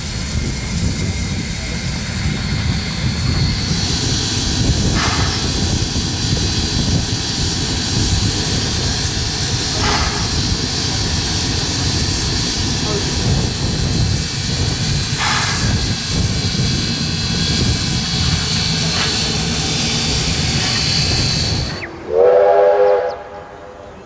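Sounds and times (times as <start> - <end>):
steam hissing: 0.0 - 23.1.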